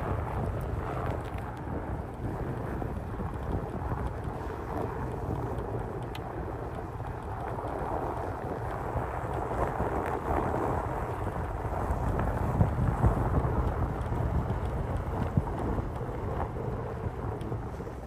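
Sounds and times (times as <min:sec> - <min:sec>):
vehicle rumble: 0:00.0 - 0:18.0
faint clicks: 0:00.4 - 0:17.8.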